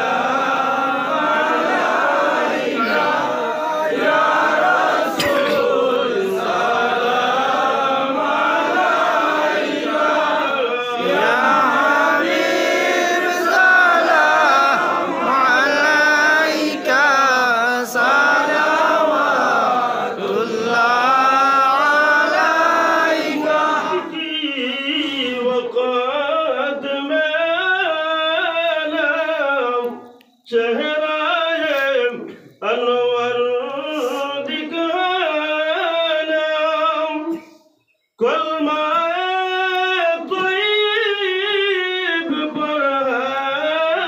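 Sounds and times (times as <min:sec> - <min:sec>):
voices chanting devotional melody: 0:00.0 - 0:44.0.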